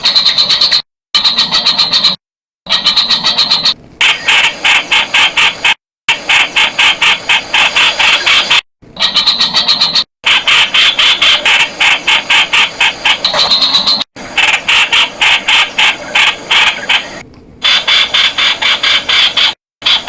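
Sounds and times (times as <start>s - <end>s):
bird harsh repeated notes: 0.0s - 20.0s.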